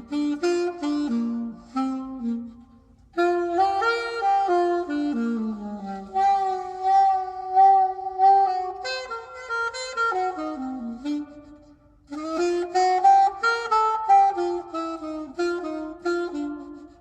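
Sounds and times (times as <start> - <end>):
saxophone playing slow jazz ballad: 0.0 - 17.0.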